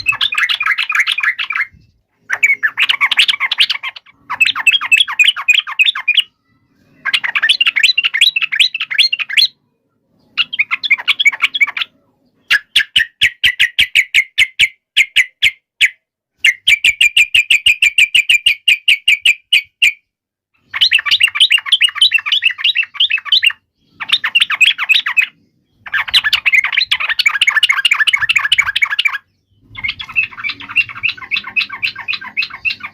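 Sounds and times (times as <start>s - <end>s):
bird chattering song: 0.0s - 32.9s.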